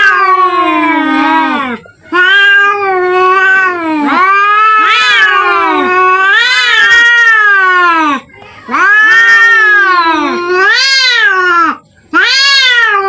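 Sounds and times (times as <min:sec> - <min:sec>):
cats yowling: 0:00.0 - 0:13.0.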